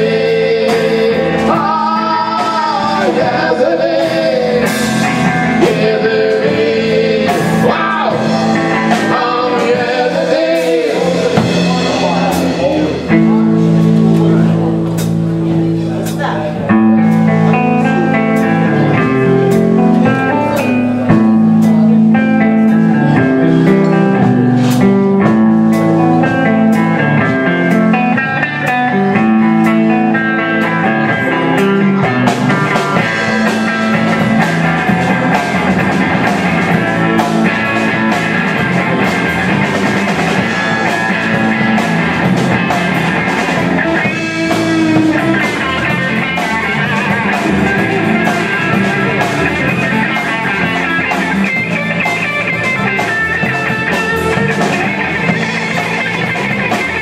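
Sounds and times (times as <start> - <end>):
drum kit with cymbals: 0.0 - 57.0
electric bass: 0.0 - 57.0
electric guitar: 0.0 - 57.0.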